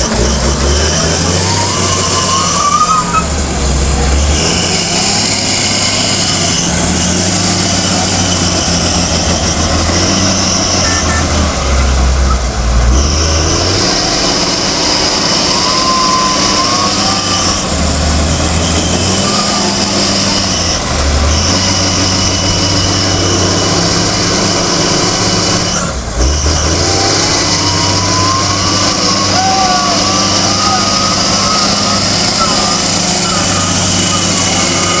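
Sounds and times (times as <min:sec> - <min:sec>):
diesel engine under load: 0:00.0 - 0:35.0.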